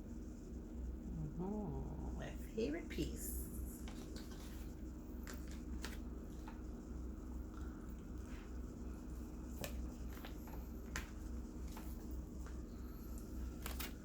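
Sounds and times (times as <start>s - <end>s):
low hum: 0.3s - 14.0s.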